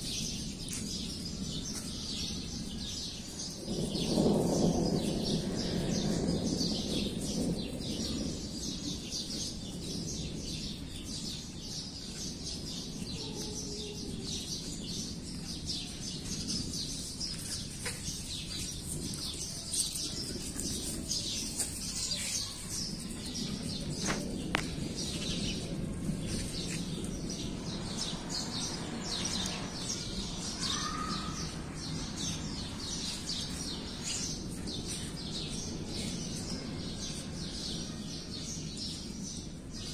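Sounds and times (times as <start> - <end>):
birds chirping: 0.2 - 37.9.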